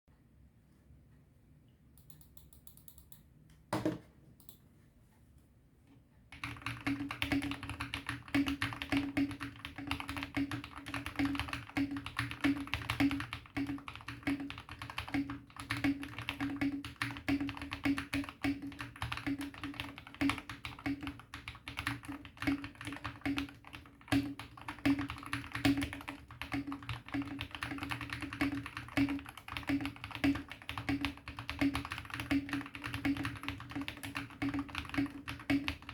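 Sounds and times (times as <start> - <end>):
mechanical keyboard typing: 2.0 - 3.2, 6.3 - 35.9.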